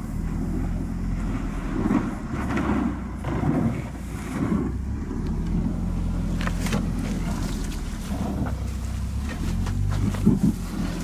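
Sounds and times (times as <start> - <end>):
car engine running low: 0.0 - 11.0
road rumble: 0.0 - 11.0.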